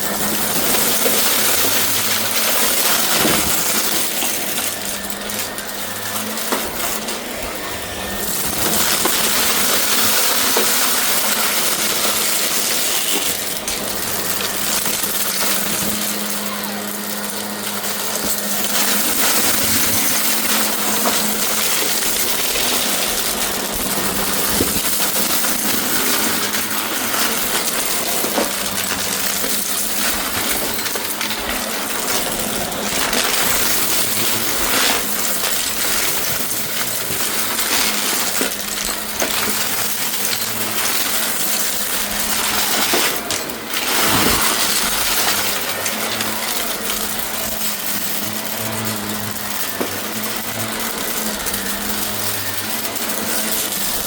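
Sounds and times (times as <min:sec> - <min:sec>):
debris clicking and rattling: 0:00.0 - 0:54.0
vacuum cleaner running: 0:00.0 - 0:54.0.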